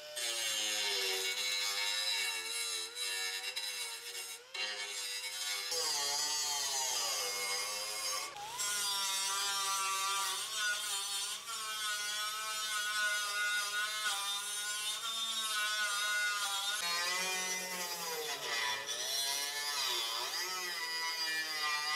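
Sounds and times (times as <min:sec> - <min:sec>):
die grinder grinding steel: 0:00.0 - 0:21.9.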